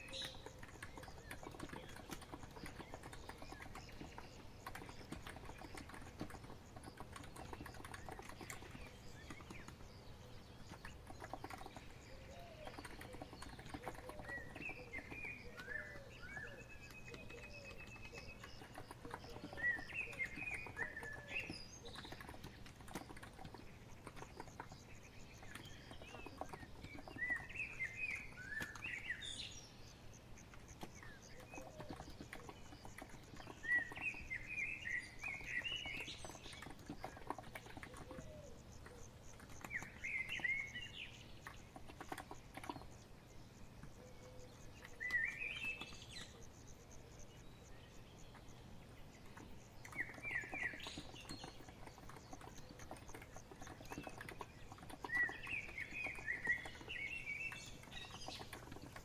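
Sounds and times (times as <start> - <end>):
keyboard typing: 0.0 - 28.9, 30.5 - 46.8, 49.2 - 59.0
birdsong chirping: 0.0 - 59.0.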